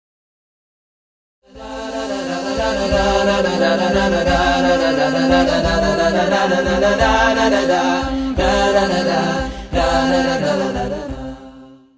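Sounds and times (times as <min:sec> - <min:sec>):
layered voices chanting: 0:01.5 - 0:11.9.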